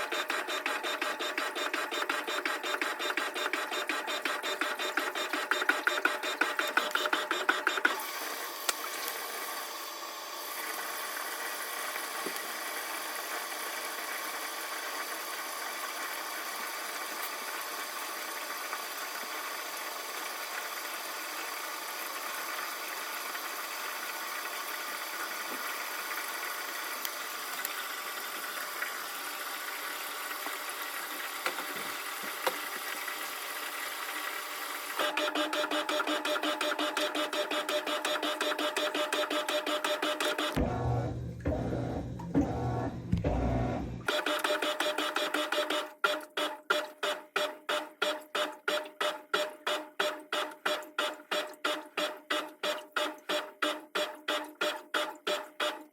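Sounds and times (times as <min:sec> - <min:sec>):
washing machine churning: 0:00.0 - 0:09.8, 0:10.6 - 0:55.9
washing machine hum: 0:00.0 - 0:47.0.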